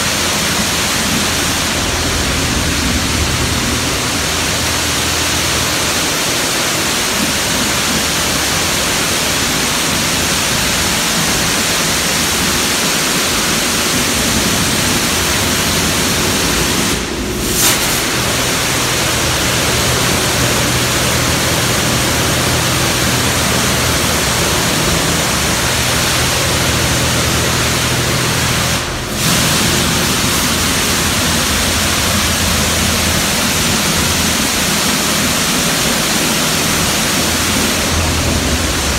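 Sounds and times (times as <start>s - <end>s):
high-pressure water spray hissing: 0.0s - 38.9s.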